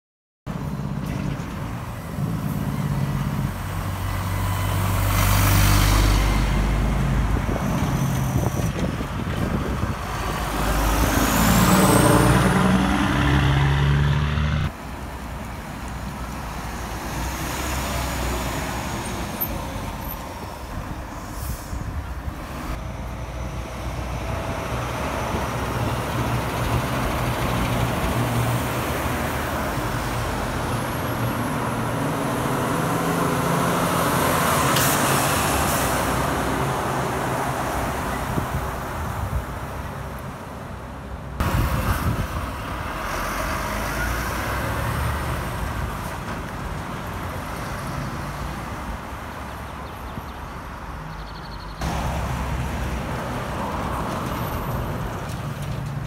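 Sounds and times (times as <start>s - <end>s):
heavy diesel trucks driving past: 0.5s - 56.0s
tyre noise on road: 0.5s - 56.0s.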